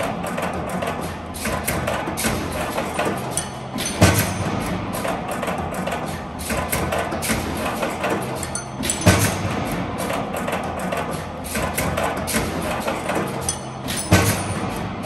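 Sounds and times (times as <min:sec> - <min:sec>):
percussive background music: 0:00.0 - 0:15.0.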